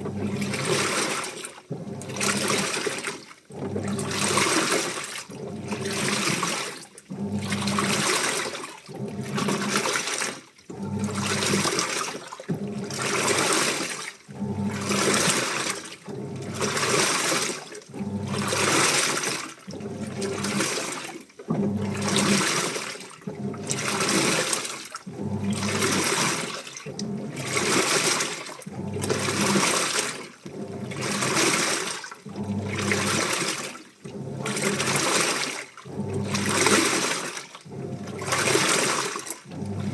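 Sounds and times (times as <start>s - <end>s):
washing machine motor hum: 0.0s - 39.9s
washing machine water sloshing: 0.0s - 39.9s.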